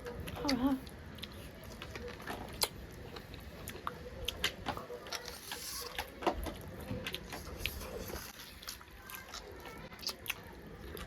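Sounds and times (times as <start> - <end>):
wet chewing clicks and smacks: 0.1 - 5.2, 6.6 - 11.0.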